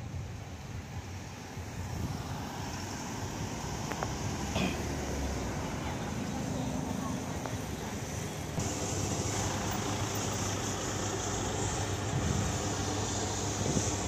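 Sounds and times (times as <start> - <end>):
hiss of vehicles: 0.0 - 14.0
low engine hum: 0.0 - 14.0.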